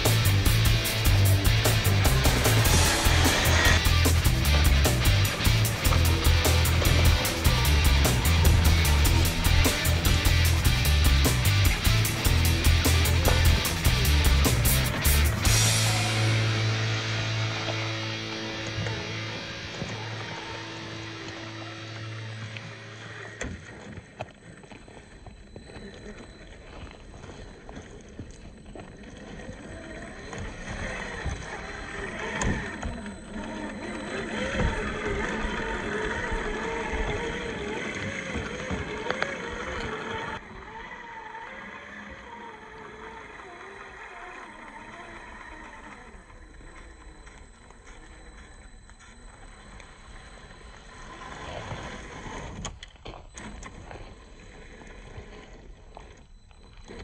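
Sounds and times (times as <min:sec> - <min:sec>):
electric motor whining: 0:00.0 - 0:57.0
rc car tyres and drivetrain rumble: 0:00.0 - 0:57.0.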